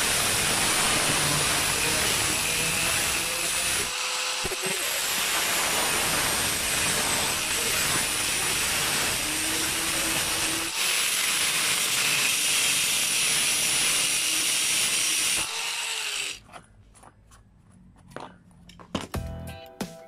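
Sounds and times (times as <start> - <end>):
angle grinder cutting: 0.0 - 16.4.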